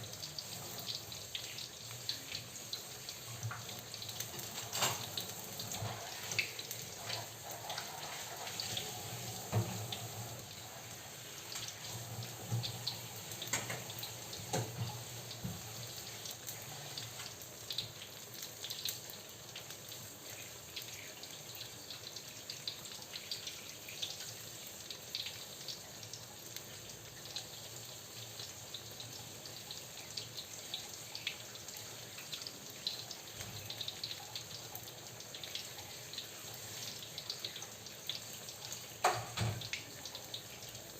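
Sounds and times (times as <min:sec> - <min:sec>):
food frying in hot oil: 0:00.0 - 0:40.9.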